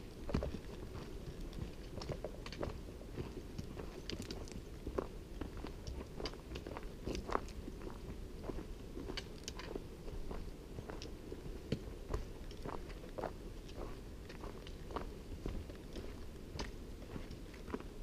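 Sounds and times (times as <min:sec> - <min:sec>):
crunching footsteps on dirt trail: 0:00.0 - 0:18.0.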